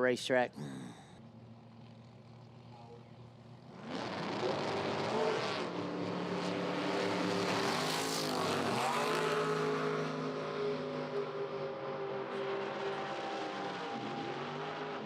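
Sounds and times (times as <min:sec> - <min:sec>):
drag racing cars at full throttle: 0:00.9 - 0:15.0.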